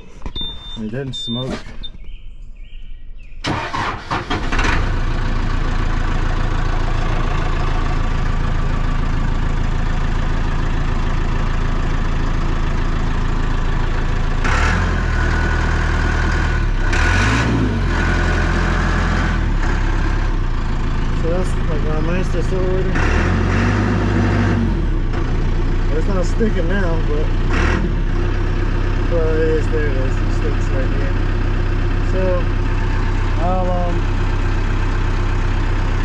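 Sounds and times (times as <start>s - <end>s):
diesel engine cranking and running: 0.0s - 36.0s.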